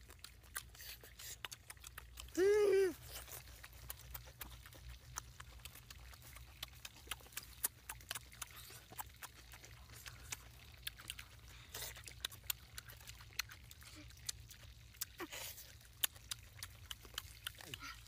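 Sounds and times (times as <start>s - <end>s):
person chewing with open mouth: 0.0s - 18.0s.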